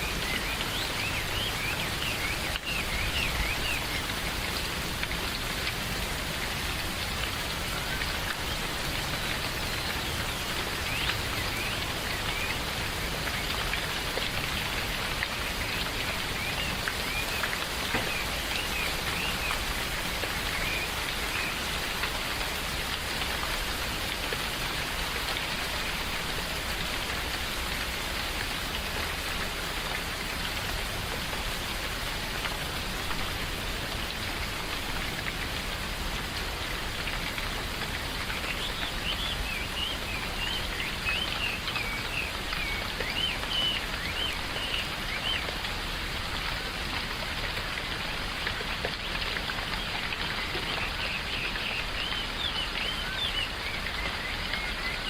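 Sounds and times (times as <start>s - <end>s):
rain falling in forest: 0.0s - 55.0s.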